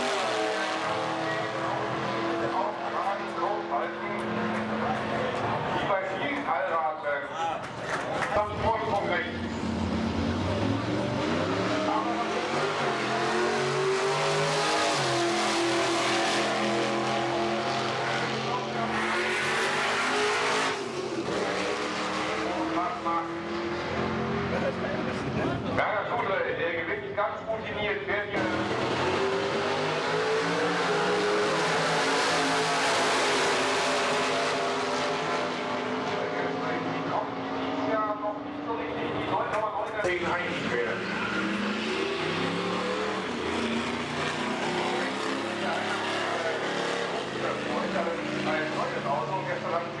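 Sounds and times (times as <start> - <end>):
car engine accelerating hard: 0.0 - 5.9, 8.3 - 25.8, 28.4 - 39.4, 40.1 - 50.0
road noise: 0.0 - 50.0.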